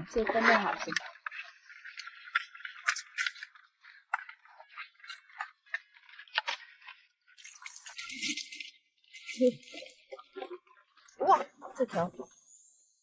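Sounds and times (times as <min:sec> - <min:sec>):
crabs clicking and rattling: 0:00.0 - 0:11.2.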